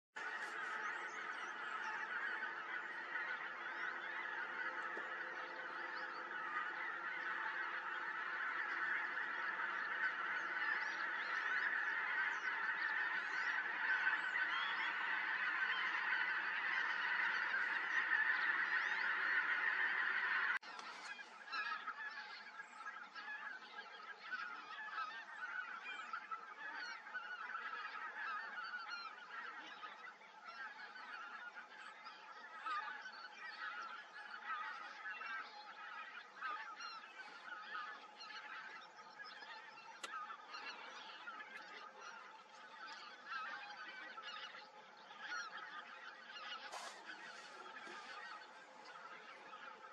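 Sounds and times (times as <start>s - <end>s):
flock of geese honking: 0.2s - 49.9s.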